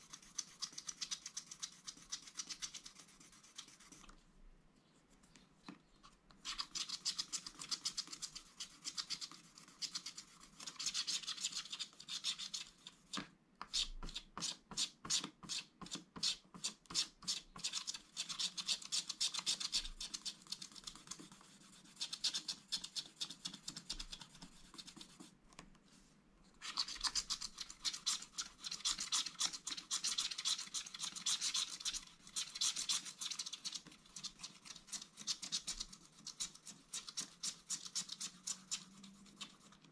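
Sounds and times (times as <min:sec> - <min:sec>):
stylus scratching a card: 0:00.0 - 0:04.1, 0:06.4 - 0:12.8, 0:13.7 - 0:25.3, 0:26.6 - 0:39.9.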